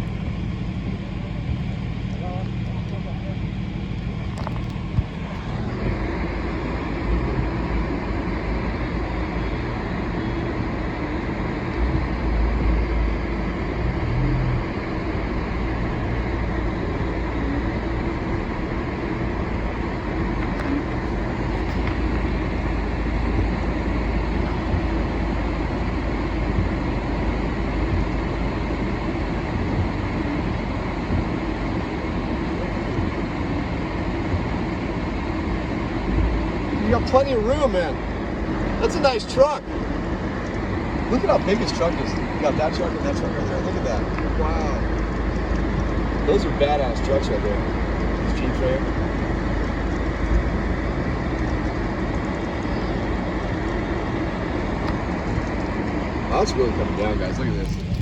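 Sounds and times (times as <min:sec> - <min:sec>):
engine and road noise inside vehicle: 0:00.0 - 0:58.0.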